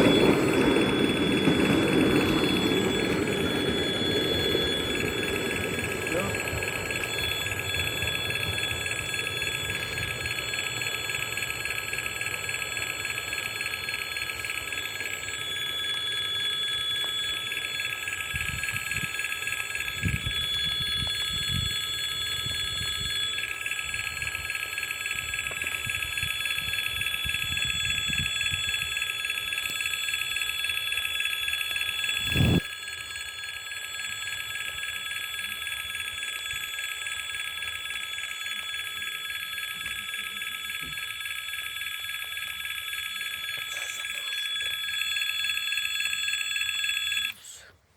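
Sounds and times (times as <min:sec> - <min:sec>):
level-crossing warning bell ringing: 0:00.0 - 0:47.4.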